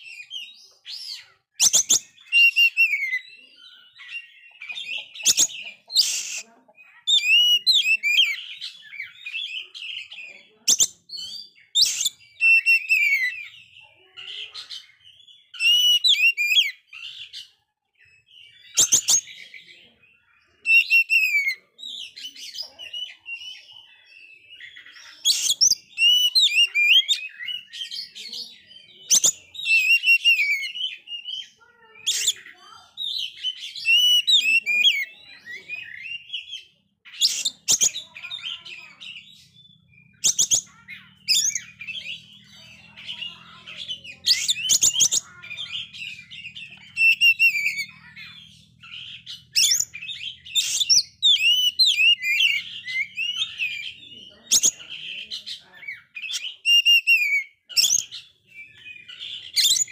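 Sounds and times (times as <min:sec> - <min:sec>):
bird singing whistled phrases: 0:00.0 - 0:13.8, 0:15.1 - 0:17.4, 0:20.6 - 0:22.3, 0:22.9 - 0:55.0, 0:55.9 - 0:59.9.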